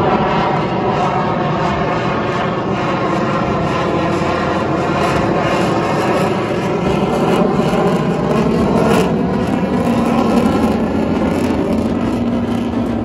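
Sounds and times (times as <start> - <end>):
fighter jet flying past: 0.0 - 13.0.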